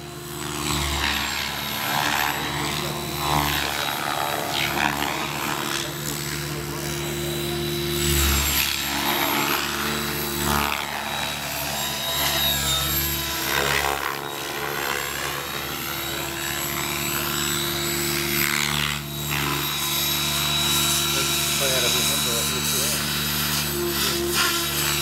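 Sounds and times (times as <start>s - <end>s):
rc helicopter rotor drone: 0.0s - 25.0s.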